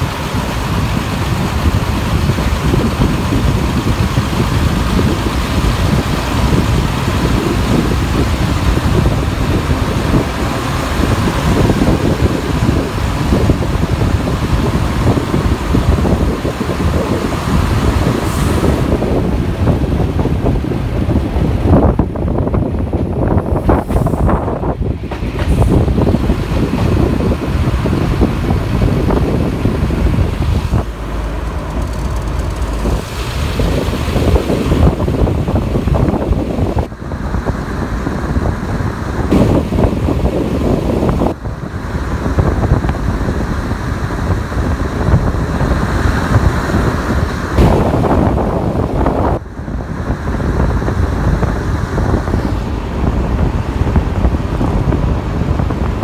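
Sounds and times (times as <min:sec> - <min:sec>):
train running noise: 0:00.0 - 0:56.0
wind buffeting microphone: 0:00.0 - 0:56.0.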